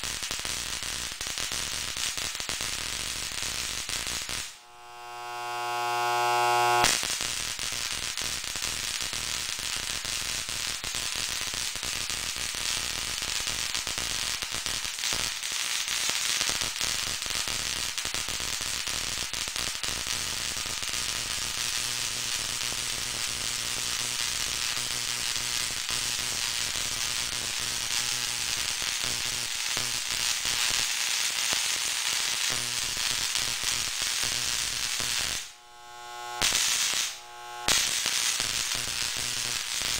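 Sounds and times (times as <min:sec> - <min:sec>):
tesla coil spark crackle: 0:00.0 - 0:39.9.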